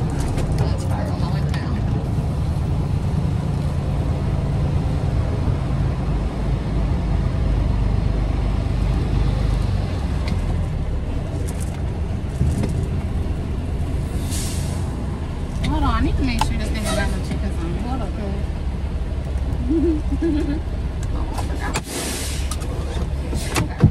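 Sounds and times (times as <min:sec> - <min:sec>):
diesel engine at low revs: 0:00.0 - 0:23.9.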